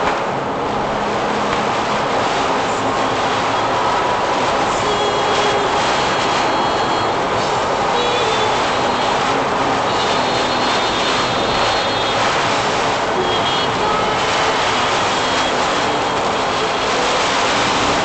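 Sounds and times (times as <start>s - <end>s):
rain and wind rushing: 0.0s - 18.0s
tyres hissing through water: 0.9s - 18.0s.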